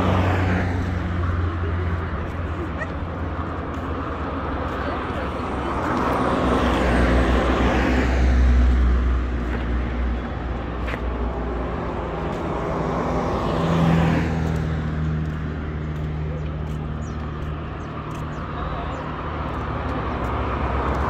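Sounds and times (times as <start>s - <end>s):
minibus passing: 0.0s - 21.0s
vehicle engine hum: 0.0s - 21.0s.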